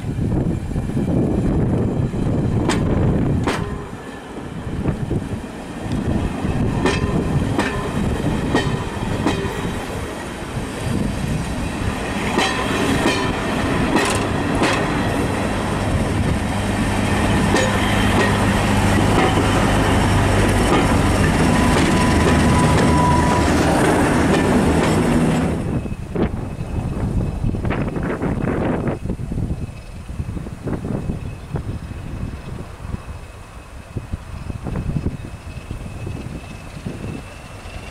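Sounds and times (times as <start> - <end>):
diesel locomotive engine drone: 0.0 - 37.9
train wheels clicking over rail joints: 1.6 - 37.9.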